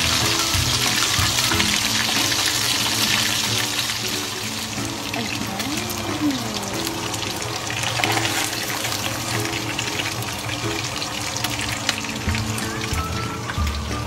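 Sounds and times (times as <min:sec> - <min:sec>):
pork chops sizzling in oil: 0:00.0 - 0:14.0
soft background music: 0:00.0 - 0:14.0.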